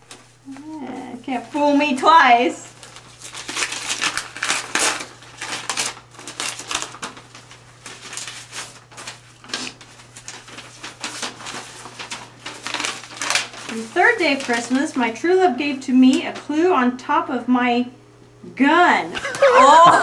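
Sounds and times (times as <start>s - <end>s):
paper rustling and crinkling: 0.0s - 16.3s.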